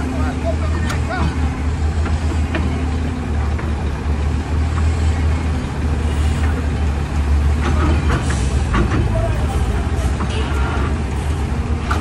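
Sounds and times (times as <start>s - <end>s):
diesel engines droning: 0.0s - 12.0s.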